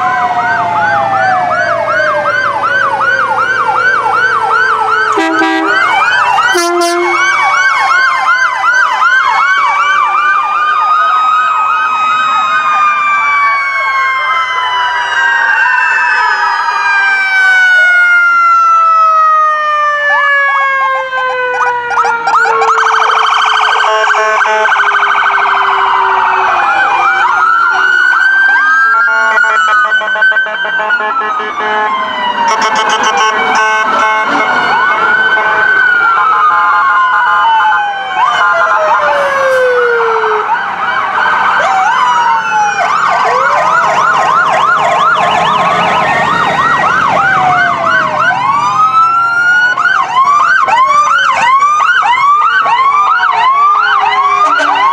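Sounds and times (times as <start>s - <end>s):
electronic sirens wailing and yelping: 0.0s - 54.9s
siren winding down: 0.0s - 54.9s.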